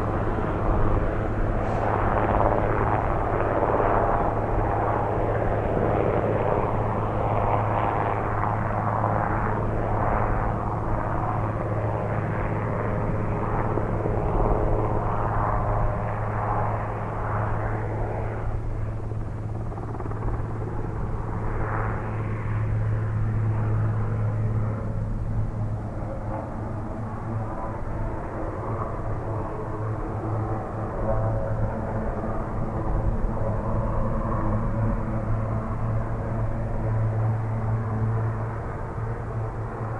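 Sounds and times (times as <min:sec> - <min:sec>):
helicopter flying: 0:00.0 - 0:39.9.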